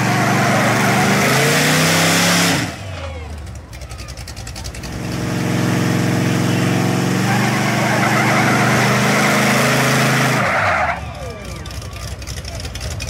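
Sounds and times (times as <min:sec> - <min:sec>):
pickup truck engines running hard: 0:00.0 - 0:13.0.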